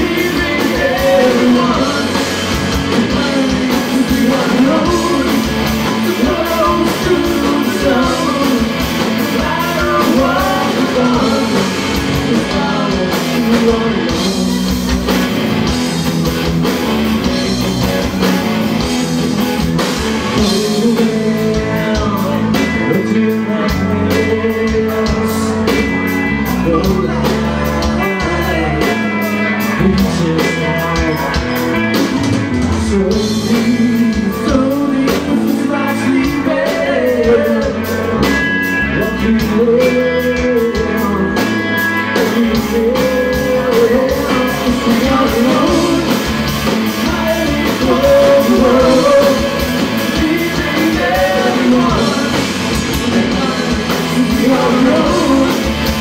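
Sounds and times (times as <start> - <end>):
drums: 0.0 - 56.0
electric guitar: 0.0 - 56.0
rock band playing live: 0.0 - 56.0
vocals: 0.0 - 56.0.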